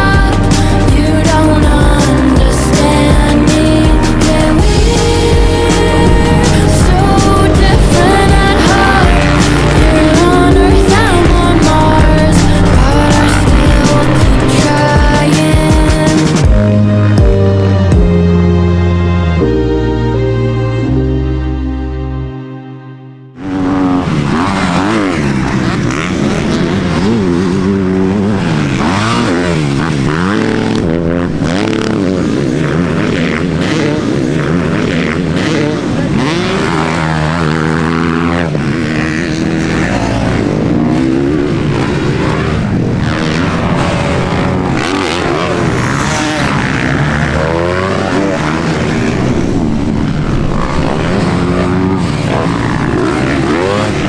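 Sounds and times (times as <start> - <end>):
dirt bike engines revving: 0.0 - 19.0, 23.4 - 54.0.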